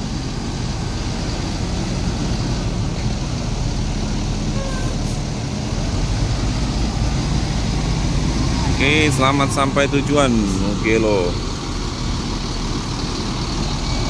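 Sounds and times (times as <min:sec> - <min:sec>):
bus diesel engine rumbling: 0:00.0 - 0:14.0.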